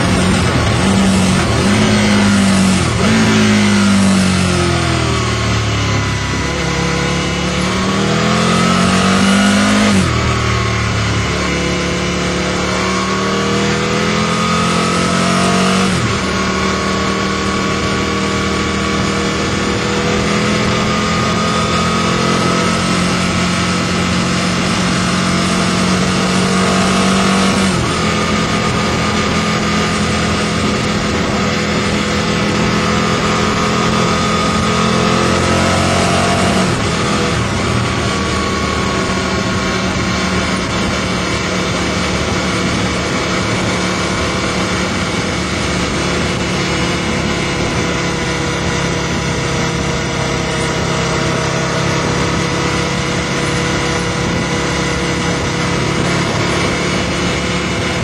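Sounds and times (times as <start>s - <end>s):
motorcycle engine revving: 0.0s - 58.0s
steady rushing noise: 0.0s - 58.0s.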